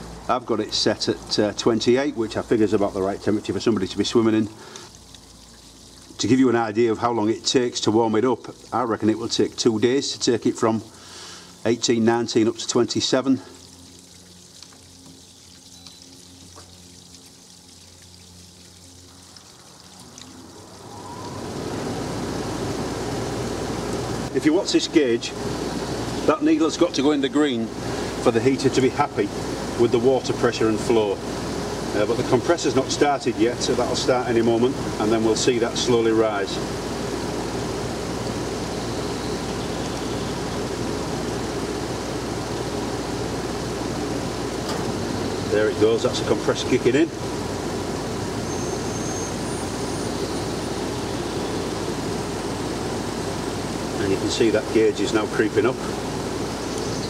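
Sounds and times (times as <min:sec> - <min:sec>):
pump electric hum: 0:00.0 - 0:57.0
water rushing through pipes: 0:00.0 - 0:57.0.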